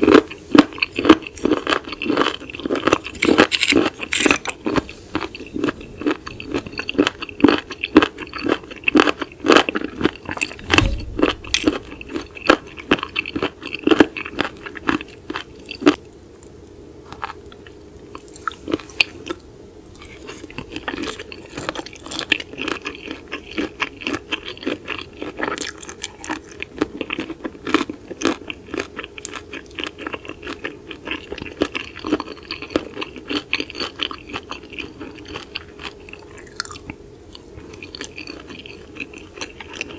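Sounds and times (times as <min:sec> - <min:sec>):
crunchy wet chewing: 0:00.0 - 0:16.0, 0:17.1 - 0:39.9.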